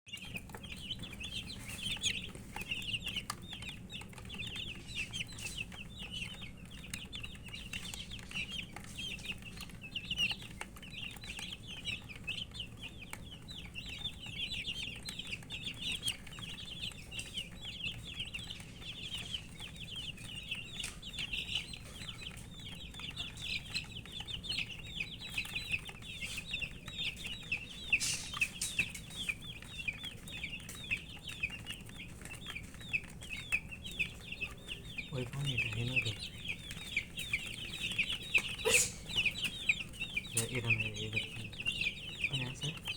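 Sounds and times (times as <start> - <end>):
baby chicks peeping: 0.0 - 42.9.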